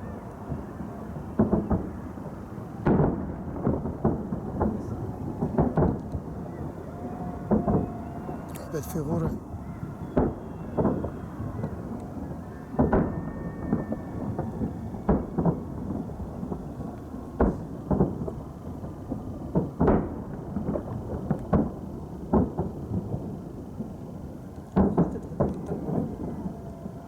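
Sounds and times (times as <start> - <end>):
distant fireworks booming: 0.0 - 27.0.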